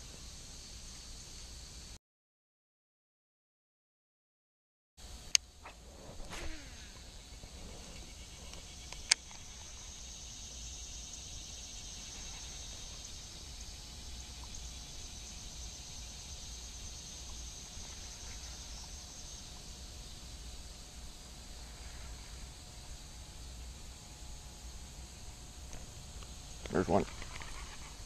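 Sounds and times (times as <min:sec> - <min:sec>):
insects chirring: 0:00.0 - 0:02.0, 0:05.0 - 0:28.0.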